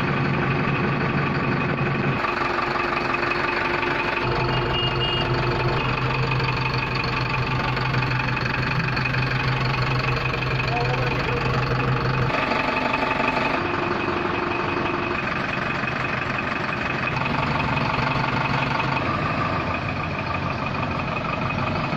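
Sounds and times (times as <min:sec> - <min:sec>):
truck diesel engine idling: 0:00.0 - 0:21.9.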